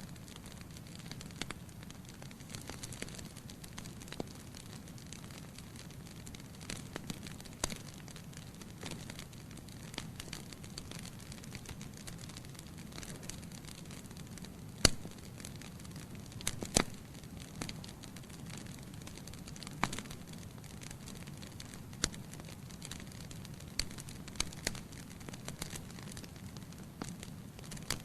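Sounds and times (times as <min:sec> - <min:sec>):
burning logs crackling and popping: 0:00.0 - 0:28.0
flames rumbling: 0:00.1 - 0:28.0.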